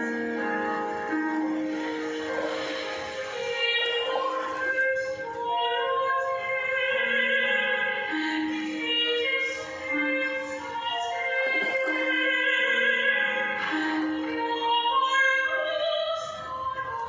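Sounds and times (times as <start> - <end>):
woman singing operatically: 0.0 - 17.0.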